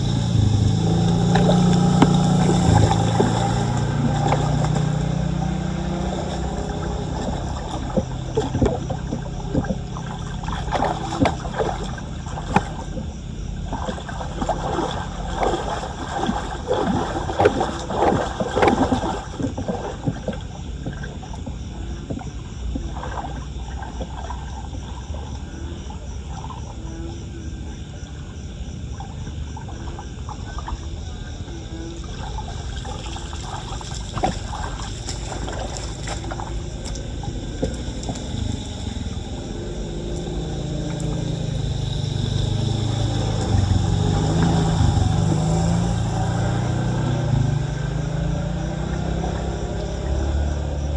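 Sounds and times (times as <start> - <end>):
steady rush of water: 0.0 - 26.7, 28.9 - 50.6
floodwater splashing and sloshing: 0.0 - 50.9.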